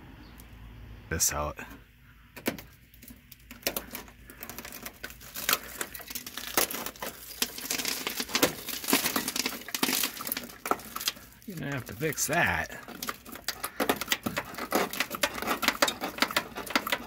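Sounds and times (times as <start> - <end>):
rusted metal crackling and snapping: 2.3 - 17.0.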